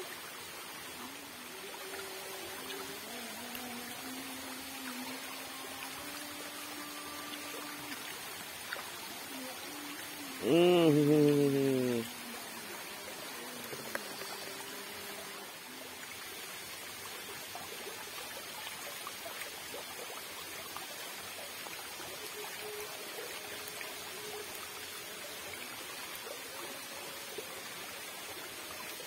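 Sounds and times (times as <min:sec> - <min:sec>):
water rushing down a channel: 0:00.0 - 0:29.0.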